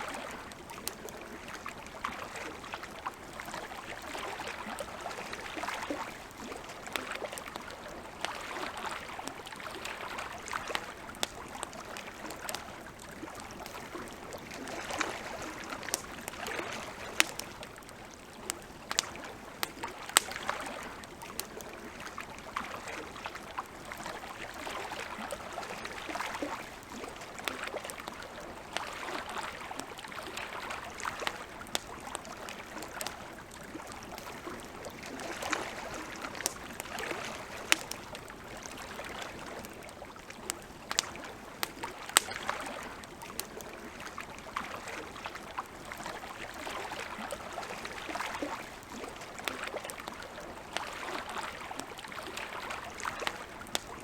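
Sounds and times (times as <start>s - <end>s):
small waves lapping at shore: 0.0s - 54.0s
campfire crackling and popping: 0.1s - 54.0s.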